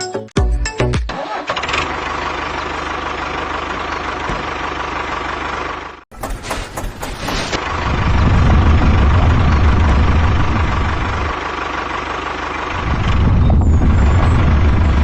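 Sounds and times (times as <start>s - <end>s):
tractor engine idling: 1.3s - 15.0s.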